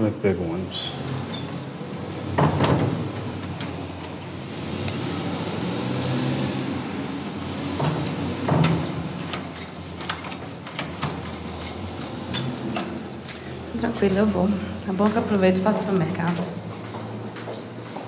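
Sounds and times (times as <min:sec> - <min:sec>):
keys jangling in door lock: 0:00.0 - 0:06.8, 0:07.9 - 0:14.4, 0:15.6 - 0:18.0.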